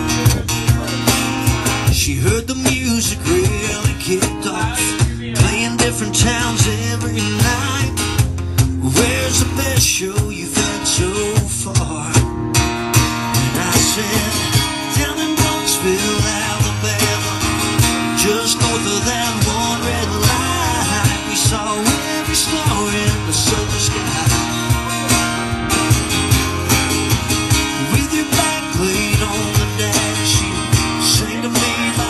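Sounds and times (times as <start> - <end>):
acoustic guitar strumming: 0.0 - 32.0
cajon beat: 0.0 - 32.0.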